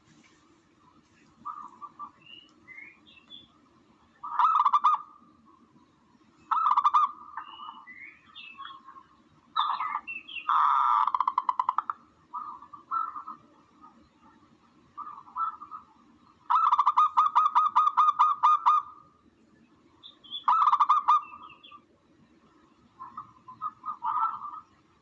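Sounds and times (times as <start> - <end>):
pulsed dove calls: 0.0 - 3.6, 4.2 - 5.6, 6.5 - 19.1, 20.0 - 21.8, 23.0 - 24.8
low steady hum: 0.0 - 25.0.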